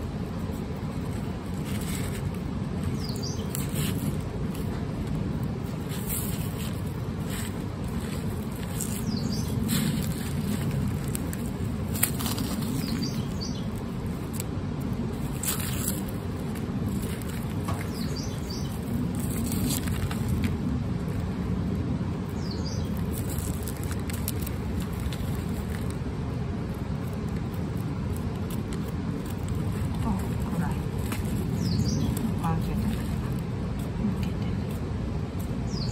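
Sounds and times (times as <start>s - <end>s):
garlic skins rustling and crackling: 0.0s - 35.9s.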